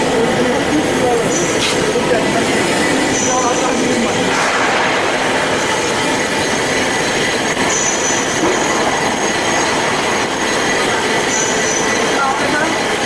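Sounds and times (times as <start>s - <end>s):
band saw grinding with whine: 0.0s - 13.0s.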